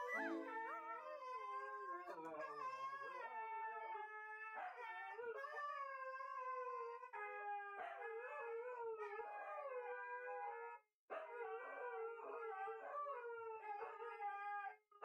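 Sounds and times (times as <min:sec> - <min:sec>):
dogs howling: 0:00.0 - 0:14.8.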